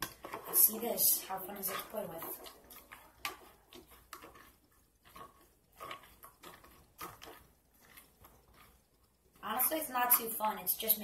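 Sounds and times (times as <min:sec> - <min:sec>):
putty squelching: 0:00.0 - 0:10.4.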